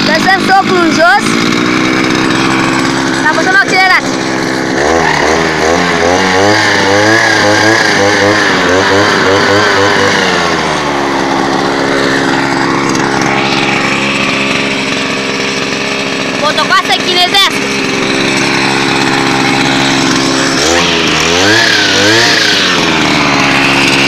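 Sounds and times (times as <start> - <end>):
brushcutter engine revving: 0.0 - 24.0
engine idling: 0.0 - 24.0.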